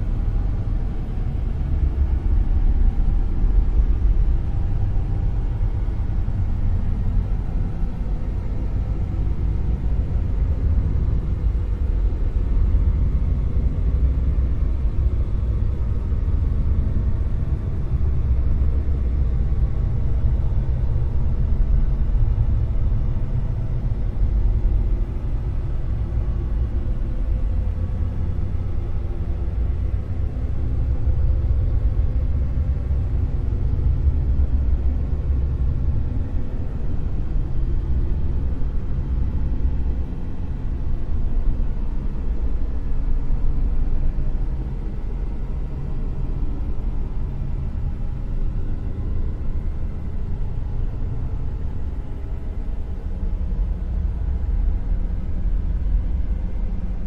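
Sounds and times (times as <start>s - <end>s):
deep rumbling drone: 0.0s - 57.0s.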